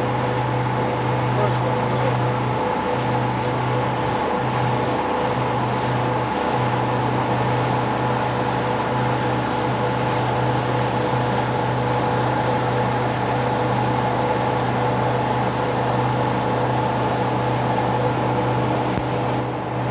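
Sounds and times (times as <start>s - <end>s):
boat engine droning: 0.0s - 19.9s.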